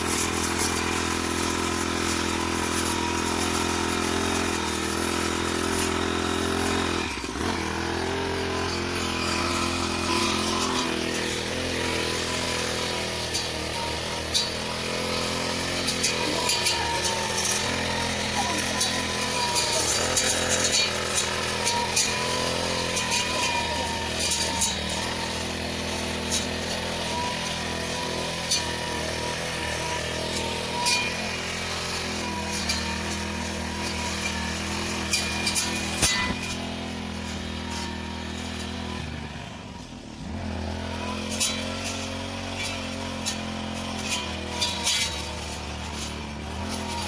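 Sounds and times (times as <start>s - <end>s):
lawn mower engine running: 0.0s - 47.0s.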